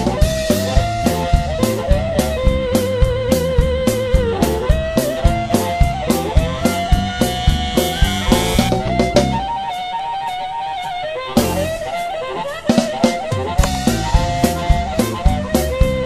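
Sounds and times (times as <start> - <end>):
music with steady drum beat: 0.0 - 16.0.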